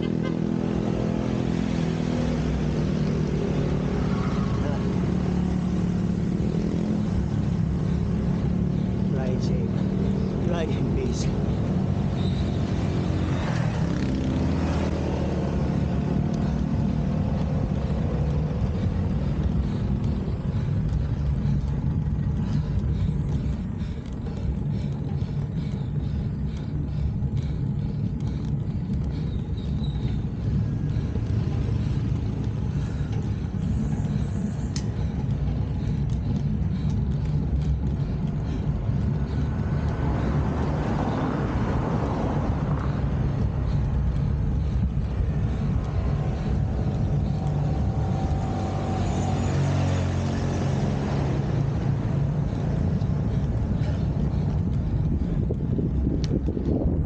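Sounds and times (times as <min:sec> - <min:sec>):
low rumble of road traffic: 0:00.0 - 0:57.0
vehicle approaching: 0:00.0 - 0:57.0.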